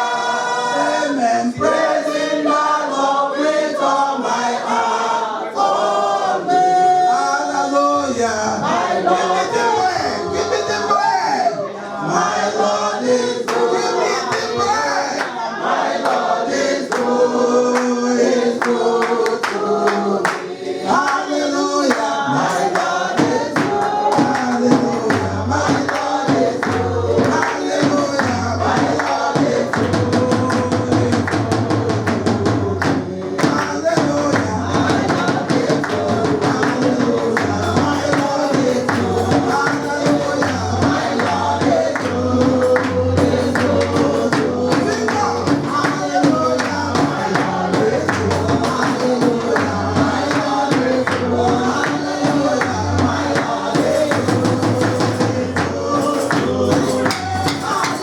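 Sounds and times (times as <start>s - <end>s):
congregation singing praise: 0.0s - 58.0s
percussion beat: 8.2s - 11.4s, 12.0s - 58.0s.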